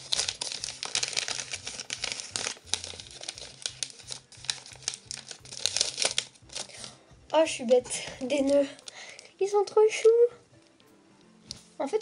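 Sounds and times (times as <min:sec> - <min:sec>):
wrapping paper crinkling: 0:00.0 - 0:10.8.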